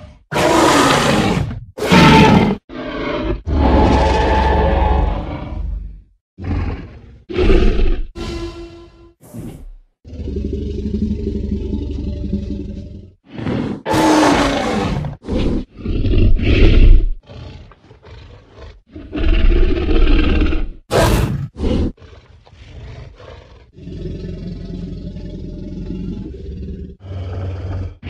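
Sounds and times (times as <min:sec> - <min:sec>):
dinosaur roaring and growling: 0:00.0 - 0:08.2, 0:09.3 - 0:28.0.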